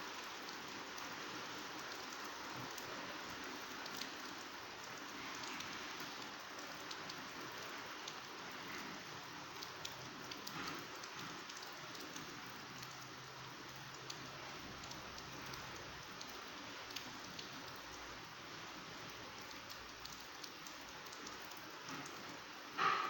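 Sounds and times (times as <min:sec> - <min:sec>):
heavy rain pouring: 0:00.0 - 0:23.0
raindrops ticking on surfaces: 0:00.0 - 0:23.0.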